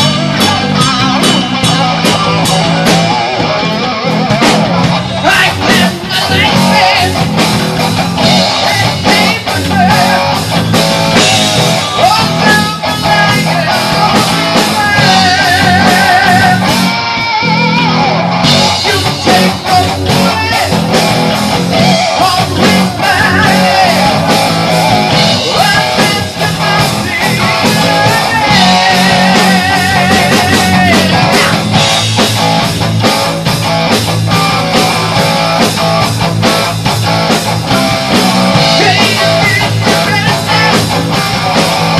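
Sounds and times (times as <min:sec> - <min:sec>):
distorted electric guitar: 0:00.0 - 0:41.9
heavy rock band playing: 0:00.0 - 0:41.9.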